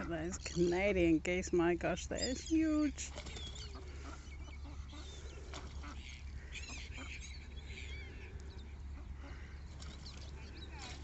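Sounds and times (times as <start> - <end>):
ducks and geese calling: 0.0 - 11.0
small birds chirping: 0.0 - 11.0
steady low hum: 0.0 - 11.0.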